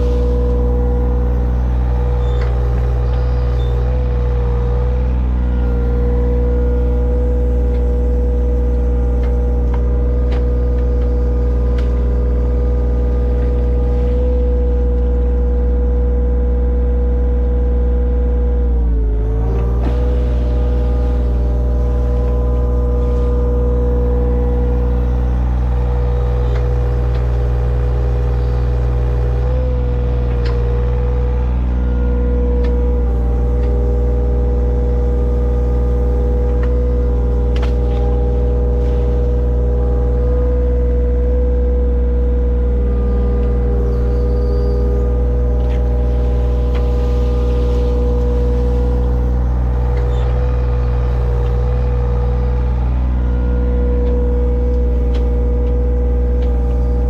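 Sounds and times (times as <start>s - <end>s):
heavy digging equipment engine running: 0.0s - 57.0s.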